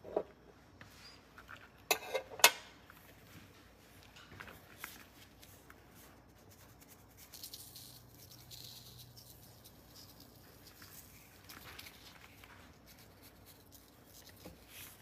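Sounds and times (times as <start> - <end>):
soft rubbing on wet paper: 3.0 - 15.0.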